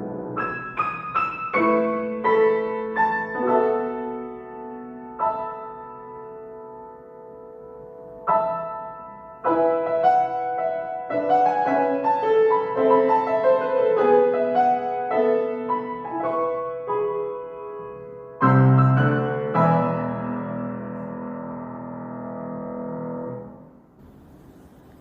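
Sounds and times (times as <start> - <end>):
solo piano playing: 0.0 - 25.0.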